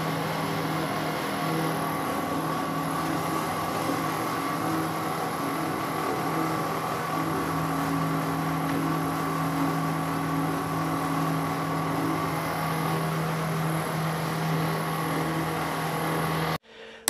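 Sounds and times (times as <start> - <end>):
machine humming: 0.0 - 16.6.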